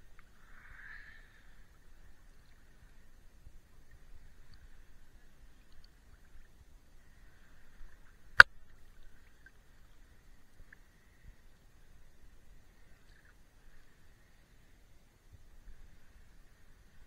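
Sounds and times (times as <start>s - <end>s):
muffled sea water rumble: 0.0s - 17.0s.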